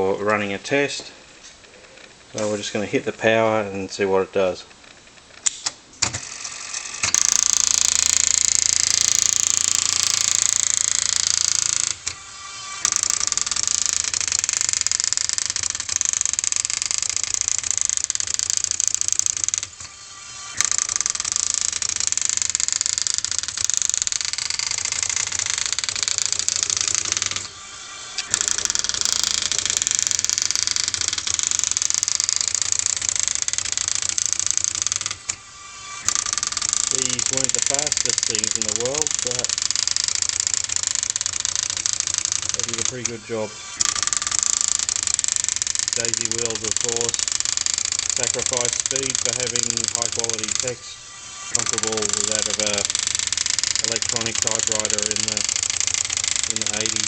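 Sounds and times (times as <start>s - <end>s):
daisy wheel printer clattering: 7.0s - 35.4s, 36.0s - 57.0s.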